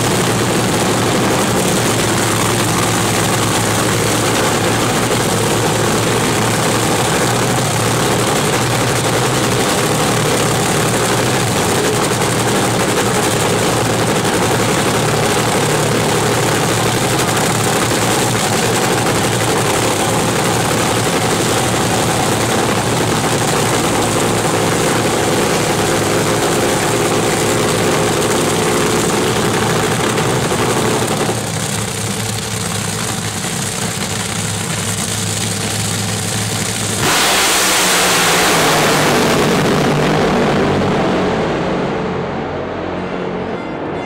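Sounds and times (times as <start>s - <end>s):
dragster engine idling: 0.0s - 37.1s
dragster engine full throttle blast: 0.0s - 44.0s.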